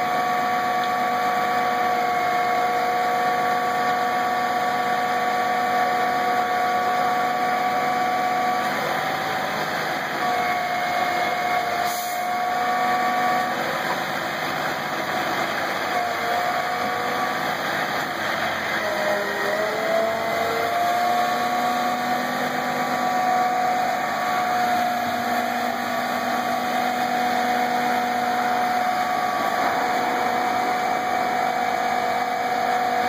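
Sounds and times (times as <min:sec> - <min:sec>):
hydraulic whine: 0:00.0 - 0:33.0
truck engine running: 0:00.0 - 0:33.0.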